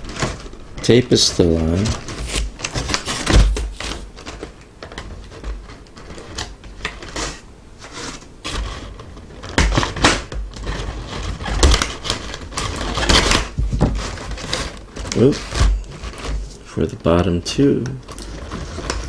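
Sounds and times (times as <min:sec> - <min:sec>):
plastic packaging crackling: 0:00.0 - 0:19.0.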